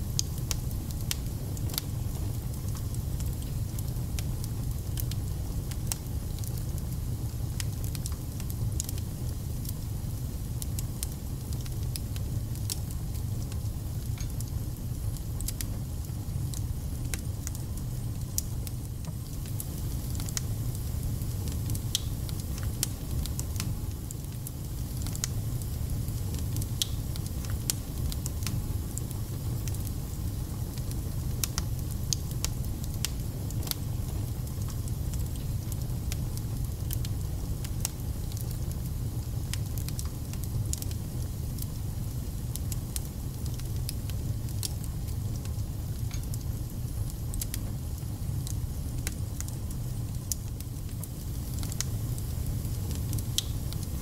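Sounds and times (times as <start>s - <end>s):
fire crackling and popping: 0.0s - 54.0s
fire low rumble: 0.0s - 54.0s.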